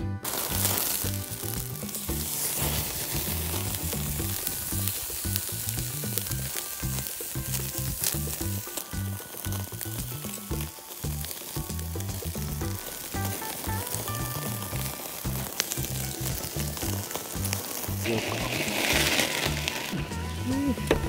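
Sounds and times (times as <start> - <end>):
background music with bass line: 0.0 - 21.0
steak sizzling on a grill: 0.0 - 21.0.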